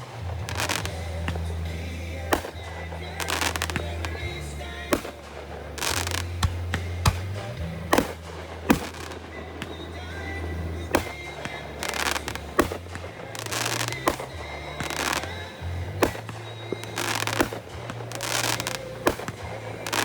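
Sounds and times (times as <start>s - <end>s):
fireworks bangs: 0.0s - 20.0s
fireworks crackle: 0.0s - 20.0s
music with steady bass line: 0.0s - 20.0s.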